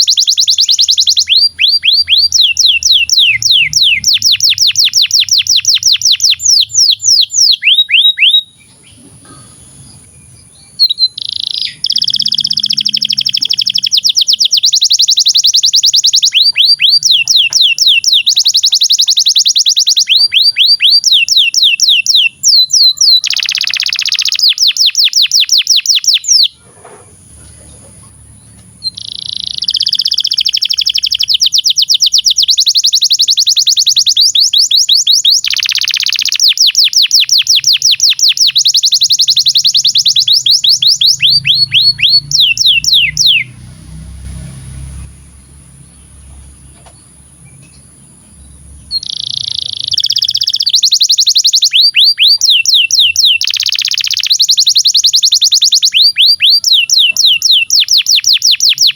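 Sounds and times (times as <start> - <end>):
canary singing trills: 0.0 - 58.9.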